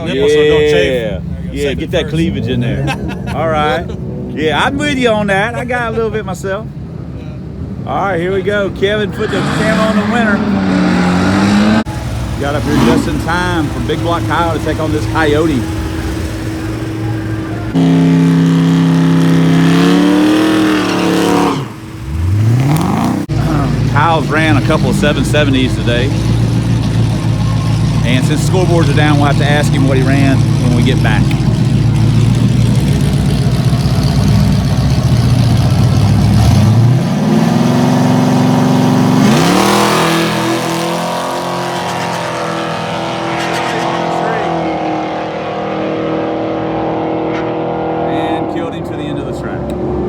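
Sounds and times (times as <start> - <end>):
drag racing engines at full throttle: 0.0 - 50.0.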